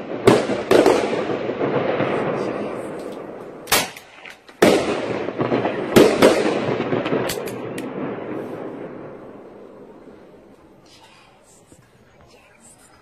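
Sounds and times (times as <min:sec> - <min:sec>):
fireworks bangs: 0:00.0 - 0:12.7.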